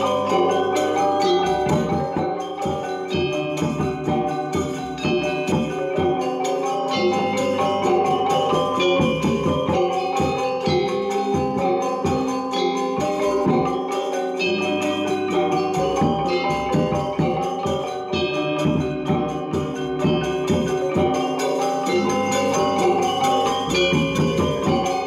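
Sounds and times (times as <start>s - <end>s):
gamelan ensemble playing: 0.0s - 25.0s.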